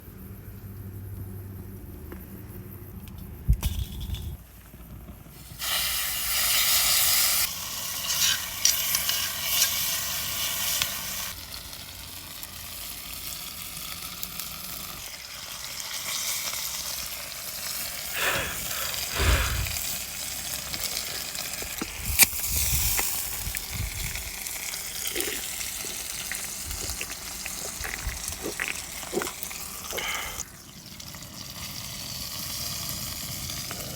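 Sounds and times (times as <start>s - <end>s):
offal sizzling in fat: 5.3s - 33.9s.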